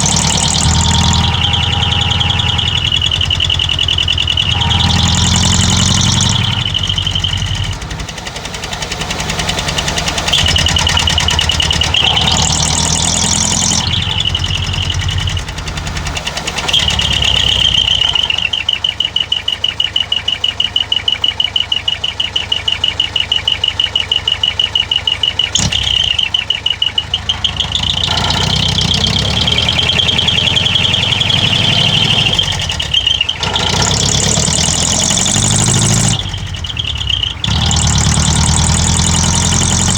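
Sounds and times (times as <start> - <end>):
diesel engine revving and idling: 0.0 - 39.9.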